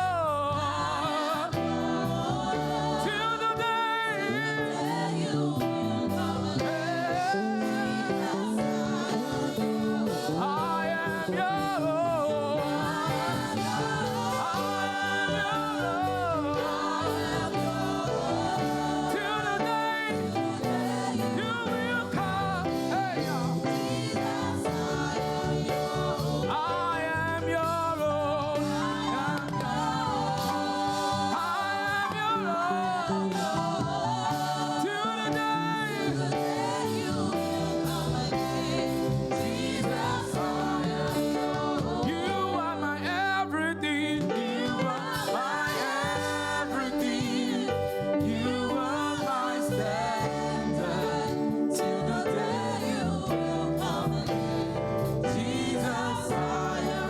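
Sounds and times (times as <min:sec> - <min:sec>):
band accompaniment: 0:00.0 - 0:57.0
choir singing gospel song: 0:00.0 - 0:57.0.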